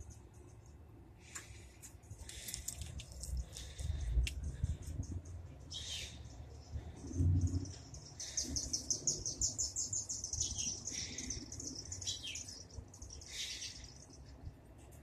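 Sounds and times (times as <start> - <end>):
small birds chirping: 1.4 - 15.0.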